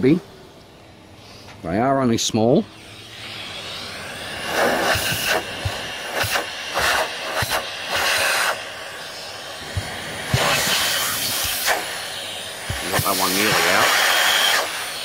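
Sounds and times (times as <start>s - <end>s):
vacuum cleaner running: 2.5s - 15.0s
air hissing in bursts: 2.7s - 15.0s.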